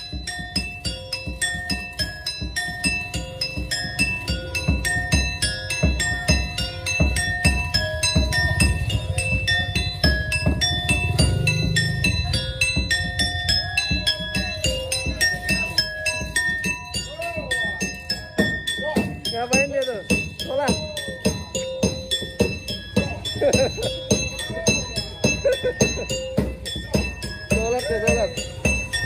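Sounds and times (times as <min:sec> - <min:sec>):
tinkling bell-like melody: 0:00.0 - 0:29.0.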